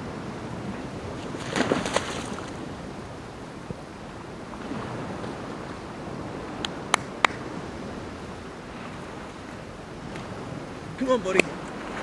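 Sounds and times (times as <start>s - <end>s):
ocean surf: 0.0s - 12.0s
wind on microphone: 0.0s - 12.0s.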